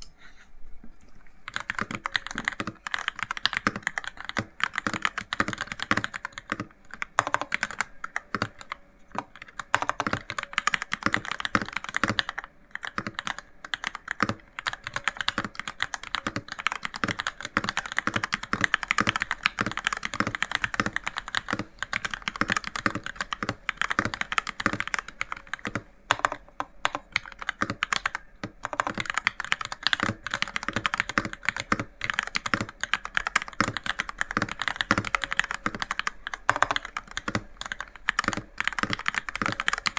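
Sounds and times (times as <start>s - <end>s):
fast mechanical keyboard typing: 1.5s - 39.9s.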